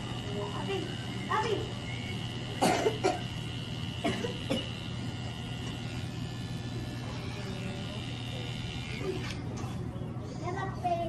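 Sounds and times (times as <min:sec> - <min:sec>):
electric hair trimmer humming: 0:00.0 - 0:09.6.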